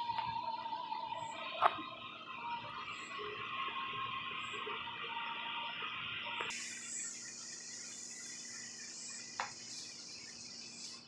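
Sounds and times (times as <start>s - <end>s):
night insects chirping: 0.0s - 11.0s.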